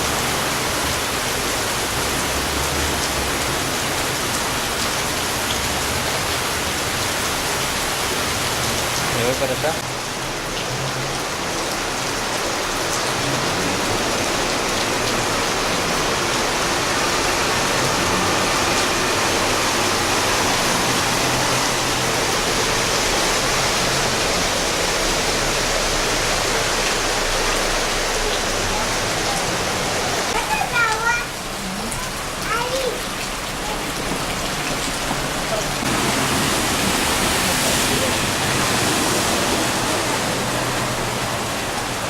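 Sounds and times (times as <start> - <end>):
steady rush of water: 0.0 - 42.0.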